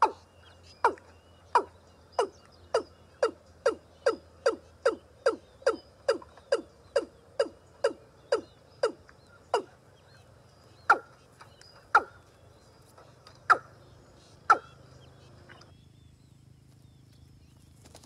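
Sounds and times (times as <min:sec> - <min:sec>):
rail bird calling: 0:00.0 - 0:16.2.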